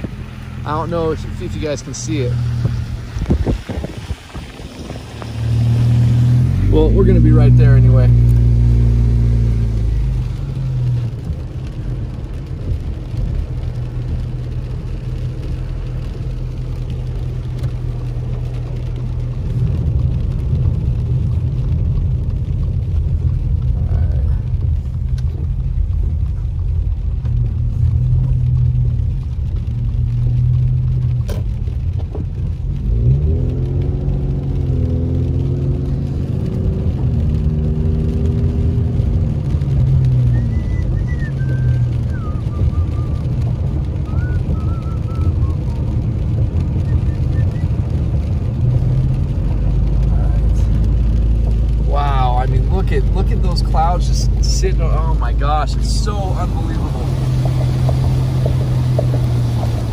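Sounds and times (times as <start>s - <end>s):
car engine rumble: 0.0s - 59.9s
tyres on wet pavement: 0.0s - 59.9s.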